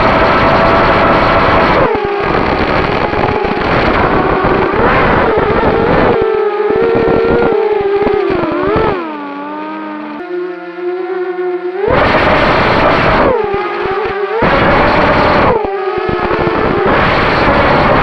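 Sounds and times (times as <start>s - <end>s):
rough rushing noise: 0.0s - 9.2s, 11.8s - 18.0s
drone motors and propellers whining: 0.0s - 18.0s.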